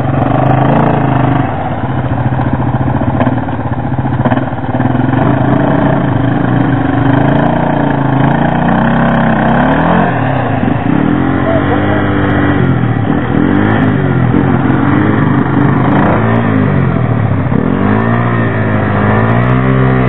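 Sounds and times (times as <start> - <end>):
quad bike engines running under load: 0.0 - 20.0.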